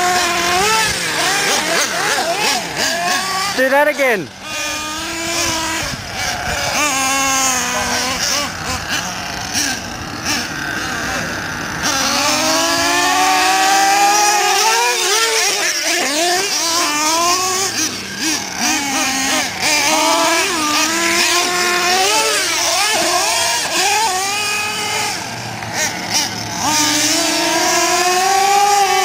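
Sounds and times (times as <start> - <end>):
small rc truck engine revving: 0.0 - 29.0.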